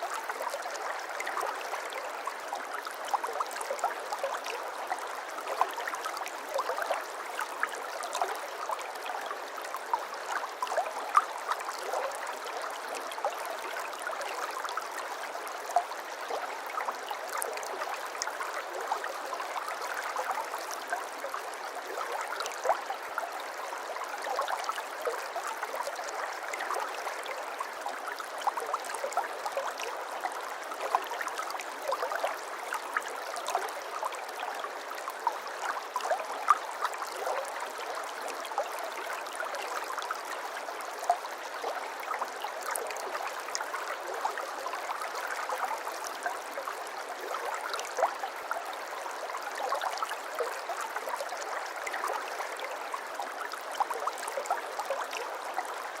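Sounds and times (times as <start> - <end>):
small stream flowing and trickling: 0.0 - 56.0.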